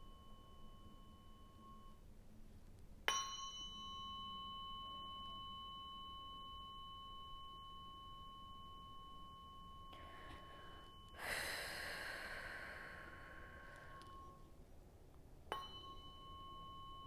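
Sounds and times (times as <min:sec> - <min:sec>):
tuning fork ringing: 0:00.0 - 0:14.8, 0:15.4 - 0:17.0.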